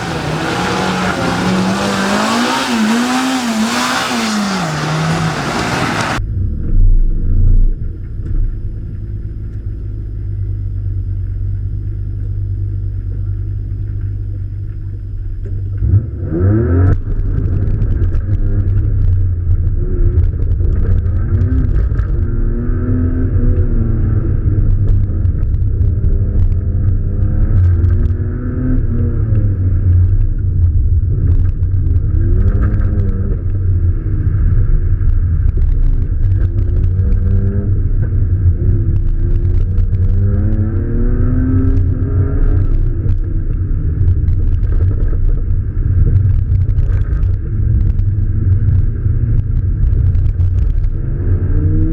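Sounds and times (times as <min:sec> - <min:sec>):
muffled car engine revving: 0:00.0 - 0:51.9.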